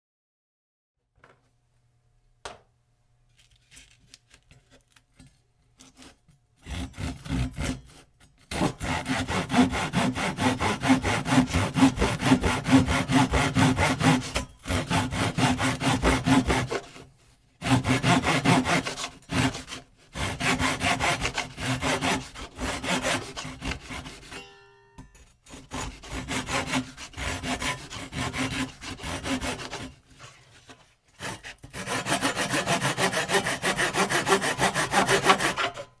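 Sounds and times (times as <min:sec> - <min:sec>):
hand saw cutting wood: 0:05.8 - 0:24.4, 0:25.4 - 0:36.0.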